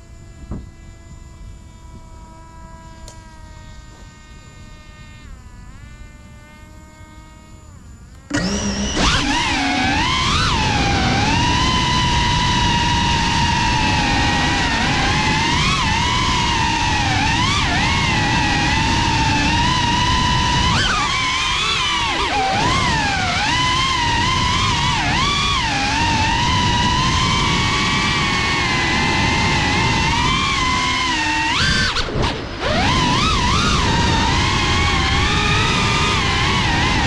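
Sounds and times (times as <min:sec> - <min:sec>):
drone motors whining: 0:00.0 - 0:37.0
drone propellers whirring: 0:00.0 - 0:37.0.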